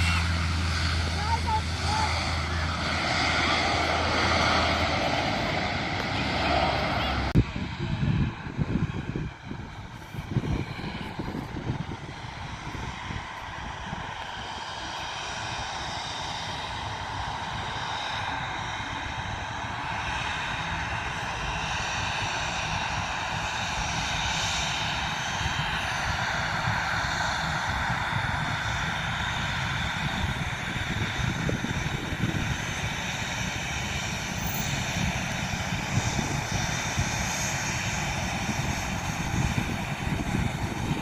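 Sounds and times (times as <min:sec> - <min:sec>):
aircraft engines whining and rumbling: 0:00.0 - 0:41.0.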